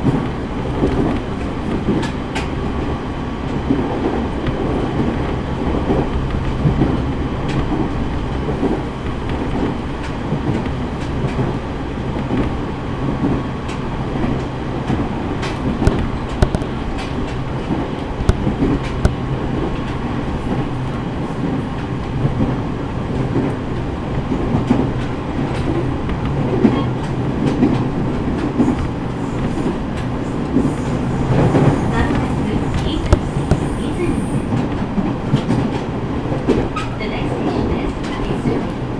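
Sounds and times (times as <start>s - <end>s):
train wheels rumbling on track: 0.0s - 38.9s
wheels clicking over rail joints: 0.0s - 38.9s.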